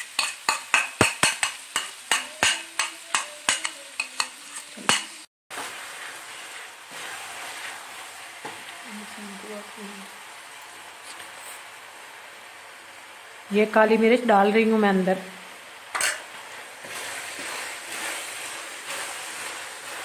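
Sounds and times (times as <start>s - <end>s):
food sizzling in a pot: 0.0s - 20.0s.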